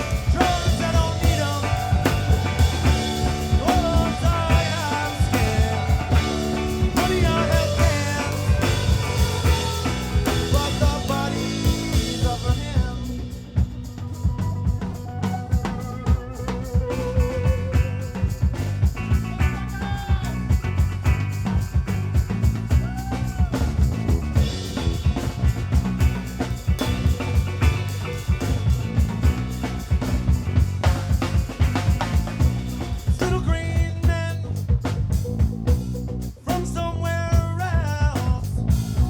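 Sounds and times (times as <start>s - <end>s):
live rock band with violin and banjo: 0.0s - 35.6s
drums fast beat: 0.0s - 39.0s.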